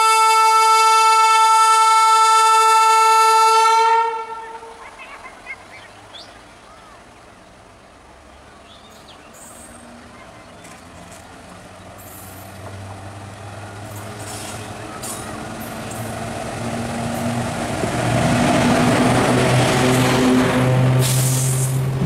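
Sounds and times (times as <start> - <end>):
electric locomotive passing: 0.0 - 22.0
train coaches rolling by: 0.0 - 22.0.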